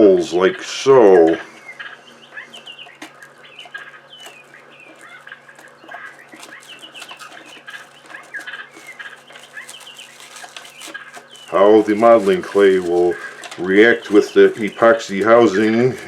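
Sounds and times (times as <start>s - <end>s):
birds chirping: 0.0s - 16.0s
faint handling clicks: 1.6s - 16.0s.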